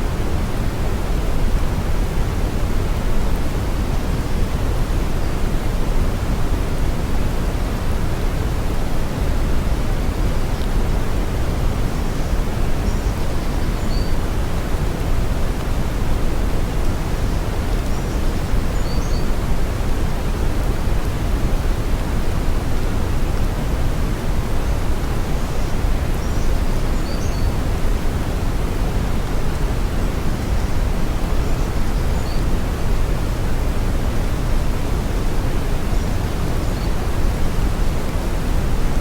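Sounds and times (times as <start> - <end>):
brown noise hiss: 0.0 - 39.0.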